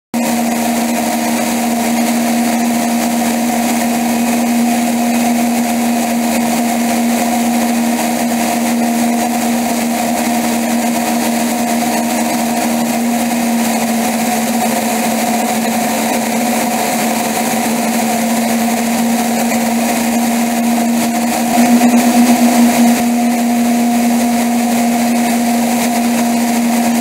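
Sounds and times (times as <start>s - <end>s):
small aircraft engine: 0.1s - 27.0s.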